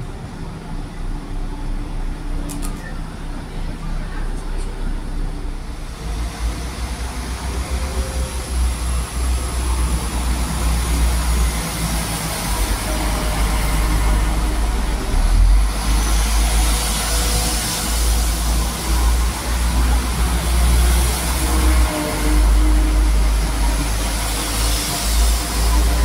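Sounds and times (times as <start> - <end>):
diesel train engine rumbling: 0.0 - 26.0.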